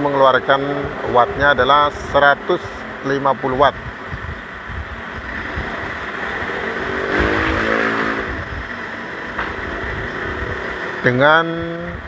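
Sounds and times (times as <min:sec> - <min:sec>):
passing vehicle engine: 0:00.0 - 0:12.0.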